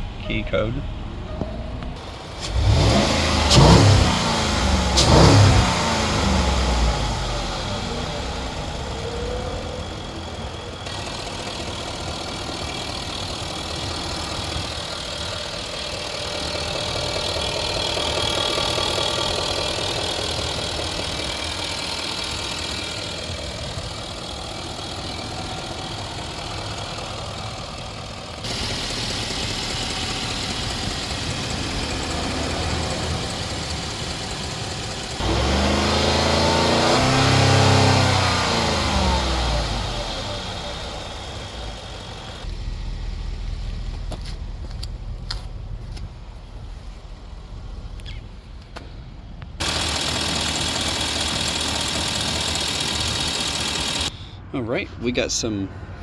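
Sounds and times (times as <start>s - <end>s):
car engine revving and idling: 0.0s - 54.3s.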